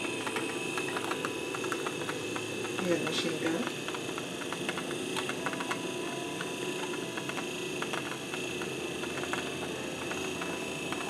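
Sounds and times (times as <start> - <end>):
milk frother whine: 0.0 - 11.0
rapid irregular clicking: 0.0 - 11.0.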